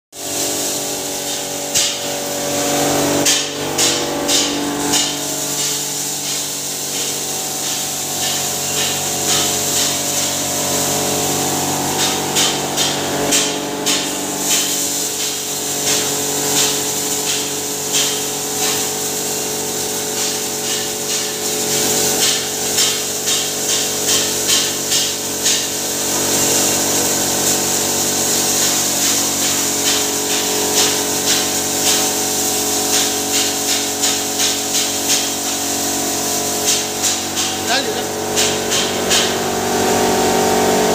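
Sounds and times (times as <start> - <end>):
hammer mill motor humming: 0.2 - 33.3, 34.9 - 40.9.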